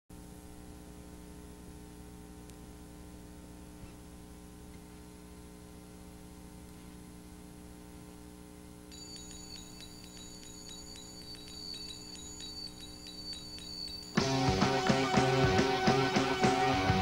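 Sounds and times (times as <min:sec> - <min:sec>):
electrical hum: 0:00.2 - 0:17.0
faint tape hiss: 0:00.2 - 0:17.0.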